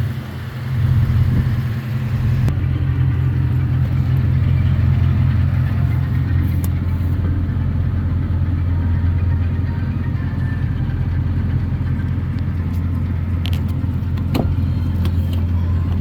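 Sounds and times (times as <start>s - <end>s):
pickup truck engine running: 0.0s - 16.0s.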